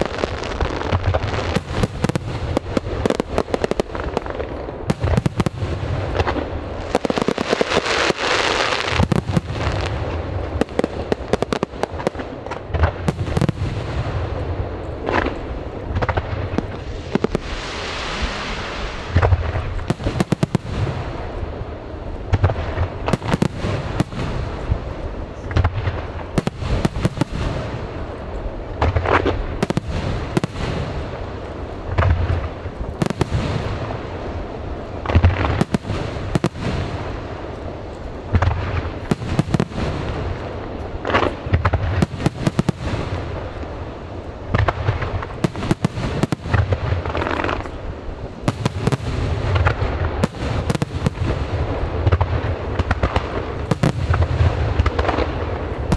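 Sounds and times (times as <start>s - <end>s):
crackling hissing firework showers: 0.0s - 55.9s
fireworks booming and cracking: 0.0s - 55.9s.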